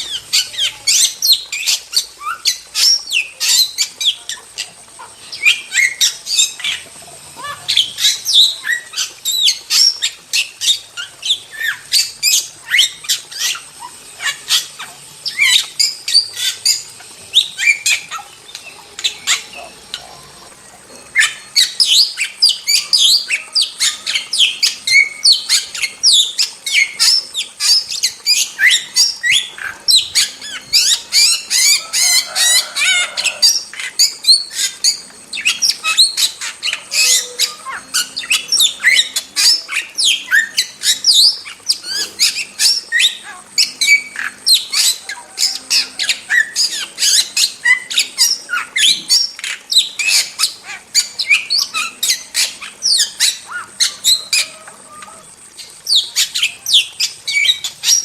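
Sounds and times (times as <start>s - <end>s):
starling chirps and whistles: 0.0s - 58.0s.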